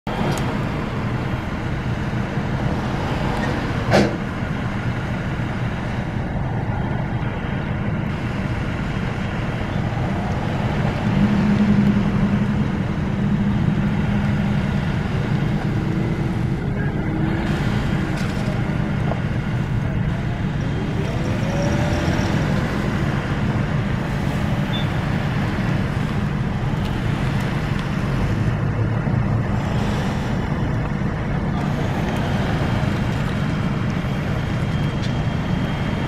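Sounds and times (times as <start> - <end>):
low rumble of road traffic: 0.0 - 36.0.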